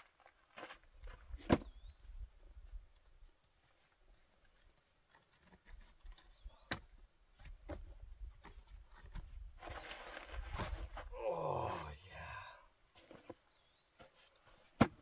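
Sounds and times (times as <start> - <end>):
insects trilling: 0.2 - 14.4.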